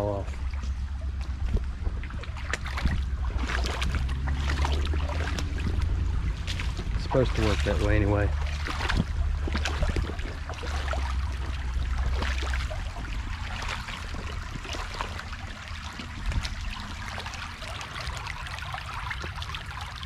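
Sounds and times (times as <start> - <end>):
creek water running over rocks: 0.0 - 20.0
low rumble: 0.0 - 20.0.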